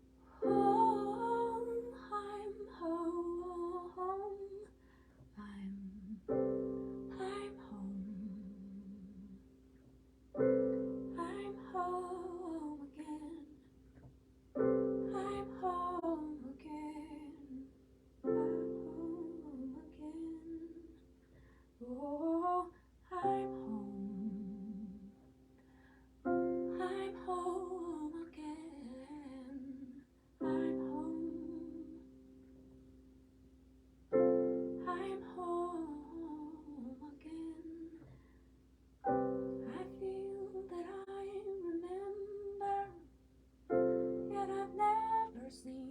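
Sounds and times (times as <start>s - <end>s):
sustained piano chords: 0.0s - 4.6s, 6.0s - 22.4s, 23.1s - 28.7s, 30.4s - 38.0s, 39.0s - 45.9s
woman singing wordless melody: 0.0s - 9.5s, 10.4s - 13.7s, 14.6s - 21.1s, 21.8s - 25.3s, 26.2s - 32.3s, 34.1s - 38.1s, 39.1s - 43.1s, 43.7s - 45.9s.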